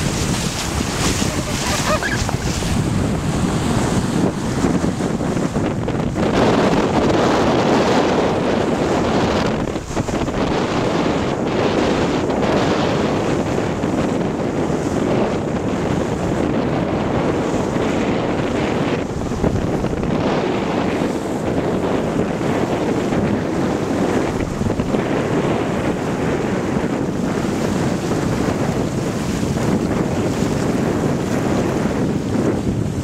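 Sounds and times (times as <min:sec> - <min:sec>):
water rushing along hull: 0:00.0 - 0:33.0
wind buffeting microphone: 0:00.0 - 0:33.0.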